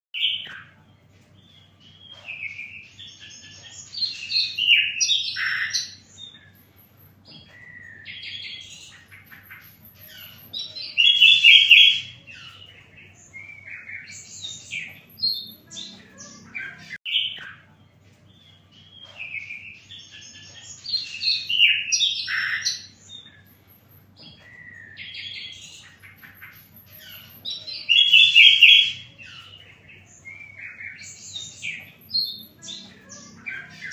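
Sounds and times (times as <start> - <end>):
songbird high chirping song: 0.1 - 33.9.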